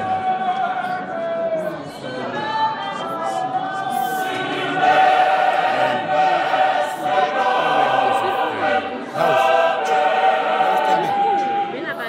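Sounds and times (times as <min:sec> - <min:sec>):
congregation singing a hymn: 0:00.0 - 0:12.0.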